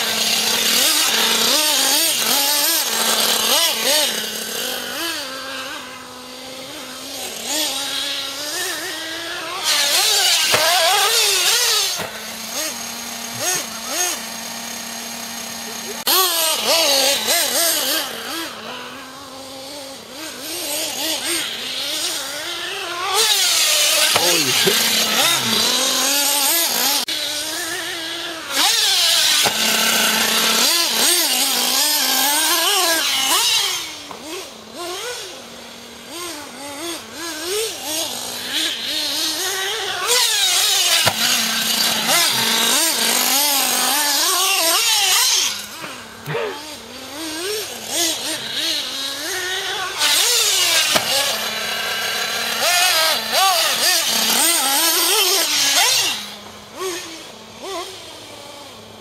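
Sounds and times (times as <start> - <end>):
small nitro engine revving: 0.0 - 59.0.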